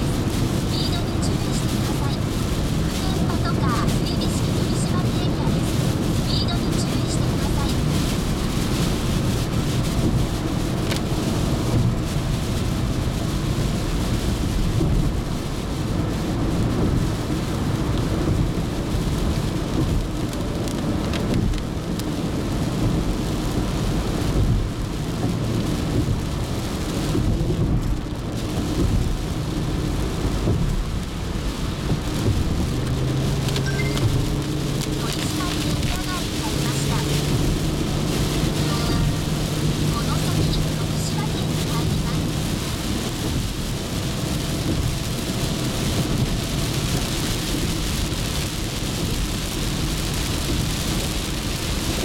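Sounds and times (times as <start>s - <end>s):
heavy rain on car windshield: 0.0s - 52.0s
tyres rumbling on wet road: 0.0s - 52.0s.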